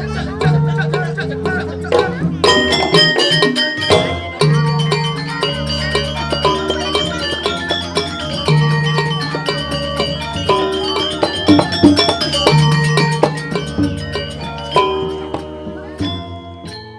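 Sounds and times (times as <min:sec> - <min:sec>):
metal-keyed instrument notes: 0:00.0 - 0:16.9.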